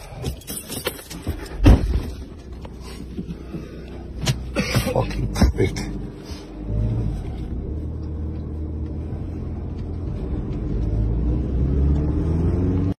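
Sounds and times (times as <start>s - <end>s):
car engine running: 0.3s - 13.0s.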